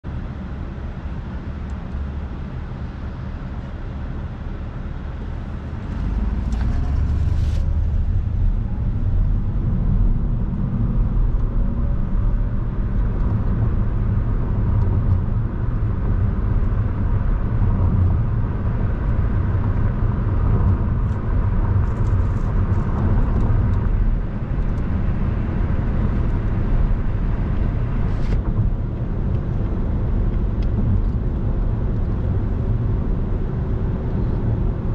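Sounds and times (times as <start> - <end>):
road and tyre noise in car: 0.0 - 34.9.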